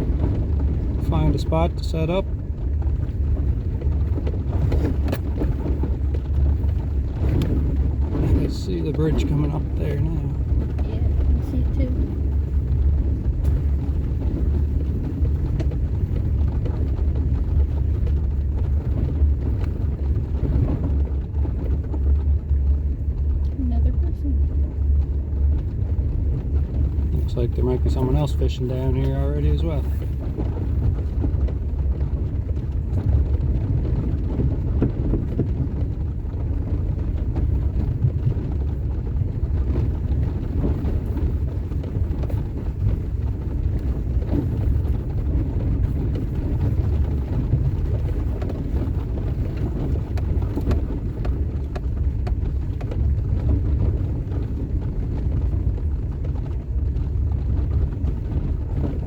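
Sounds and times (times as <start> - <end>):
truck engine and tyres rumbling: 0.0 - 59.0.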